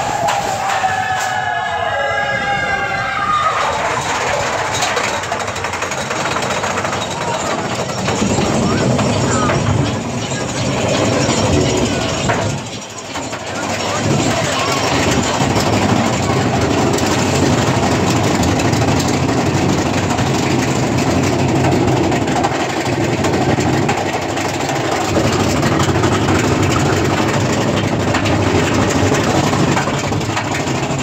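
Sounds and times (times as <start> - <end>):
roller coaster rumbling: 0.0 - 31.0.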